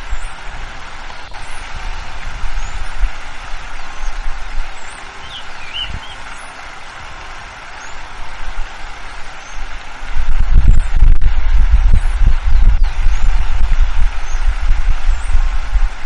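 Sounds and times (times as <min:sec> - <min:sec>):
gusty wind buffeting: 0:00.0 - 0:16.0
small birds chirping: 0:00.0 - 0:16.0
wind through trees: 0:00.0 - 0:16.0.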